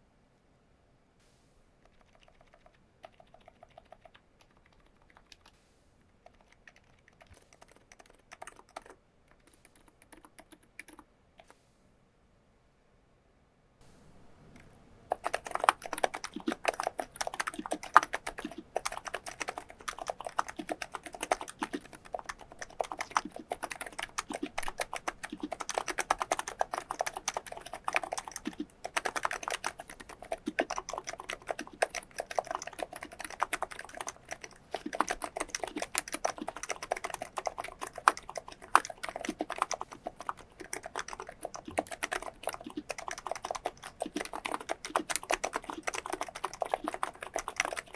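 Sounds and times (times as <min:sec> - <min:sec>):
fast keyboard typing: 0:01.8 - 0:05.5, 0:06.2 - 0:11.5, 0:15.1 - 0:47.9.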